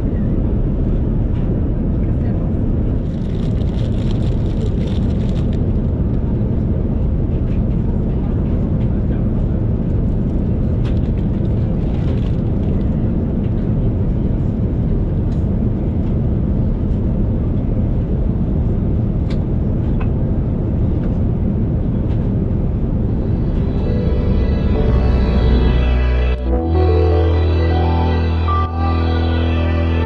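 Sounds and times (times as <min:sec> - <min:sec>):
aircraft cabin engine rumble: 0:00.0 - 0:28.5.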